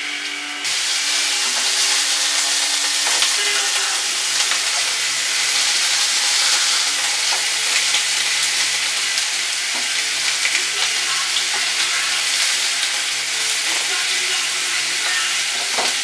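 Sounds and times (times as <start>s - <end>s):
burgers sizzling in a frying pan: 0.0s - 16.0s.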